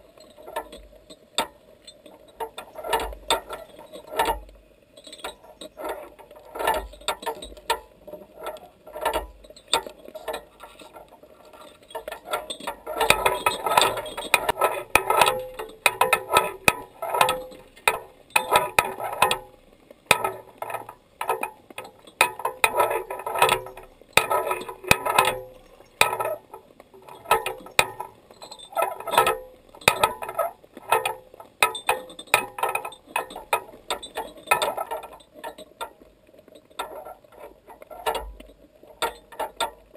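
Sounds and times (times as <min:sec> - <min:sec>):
rapid clicking and ticking: 0:00.0 - 0:39.9.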